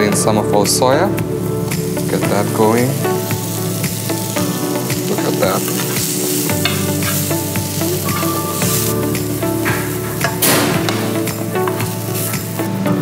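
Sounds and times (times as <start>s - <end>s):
mushrooms sizzling in frying pan: 0.0s - 13.0s.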